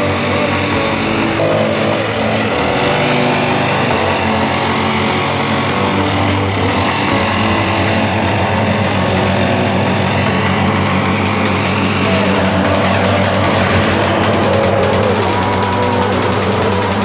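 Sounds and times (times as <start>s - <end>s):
leaf blower engine running: 0.0s - 17.0s.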